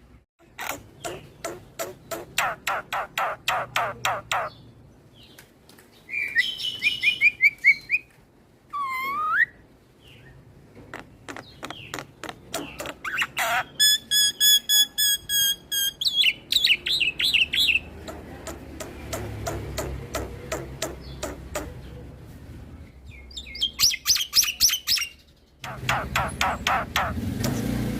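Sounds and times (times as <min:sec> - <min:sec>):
bird singing varied song: 0:00.5 - 0:08.1, 0:11.0 - 0:18.2, 0:18.8 - 0:22.1, 0:22.9 - 0:27.8.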